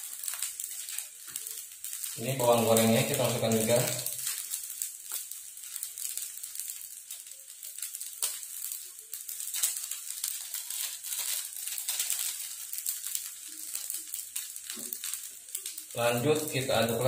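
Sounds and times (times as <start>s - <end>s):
food sizzling in a wok: 0.0s - 17.0s
shallots crackling when crumbled: 0.0s - 17.0s.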